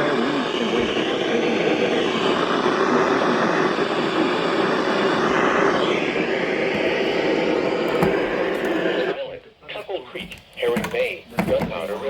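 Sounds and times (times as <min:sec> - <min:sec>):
radio hiss and static: 0:00.0 - 0:12.0.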